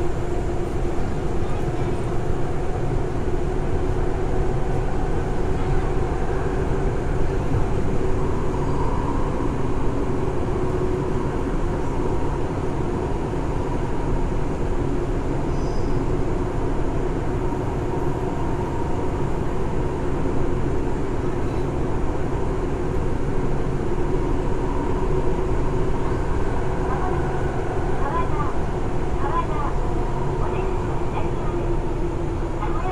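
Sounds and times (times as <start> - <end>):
subway car running rumble: 0.0 - 32.9.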